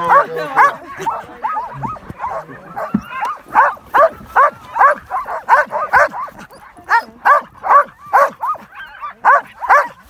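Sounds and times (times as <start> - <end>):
sled dogs barking and yipping: 0.0 - 10.0.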